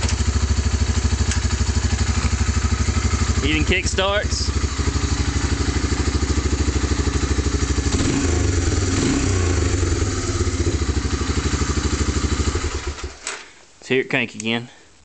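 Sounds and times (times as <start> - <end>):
atv engine idling: 0.0 - 13.2.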